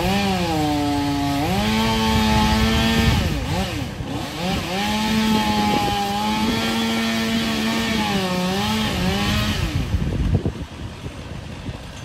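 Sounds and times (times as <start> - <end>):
chainsaw cutting wood: 0.0 - 10.6.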